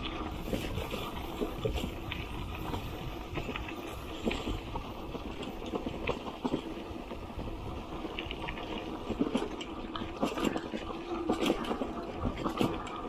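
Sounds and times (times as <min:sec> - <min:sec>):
tyres rumbling on dirt road: 0:00.0 - 0:13.0
wind: 0:00.0 - 0:13.0.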